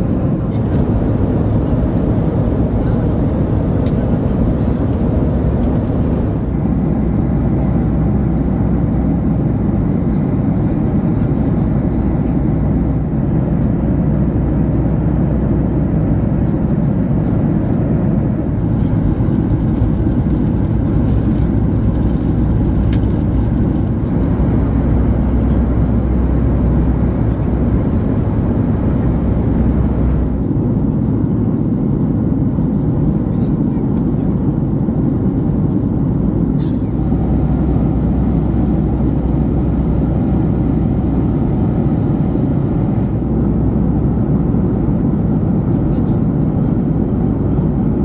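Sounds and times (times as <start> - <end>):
low engine rumble: 0.0 - 48.0.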